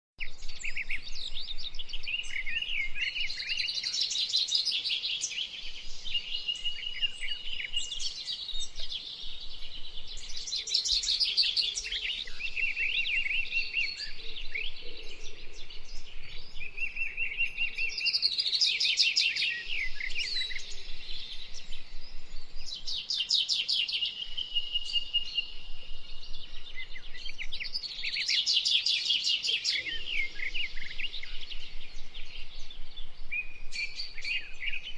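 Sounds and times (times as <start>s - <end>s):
songbirds singing: 0.2s - 34.9s.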